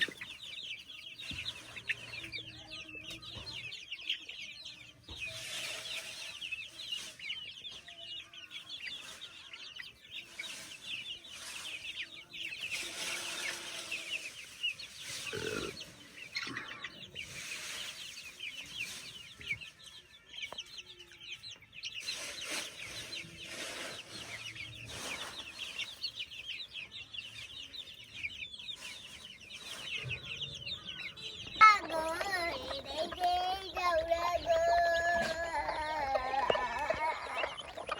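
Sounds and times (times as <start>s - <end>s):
baby chicks peeping: 0.0s - 37.9s.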